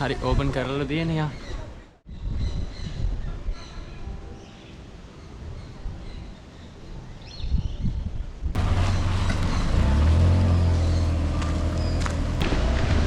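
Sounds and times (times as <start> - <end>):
birds chirping: 0.0 - 12.4.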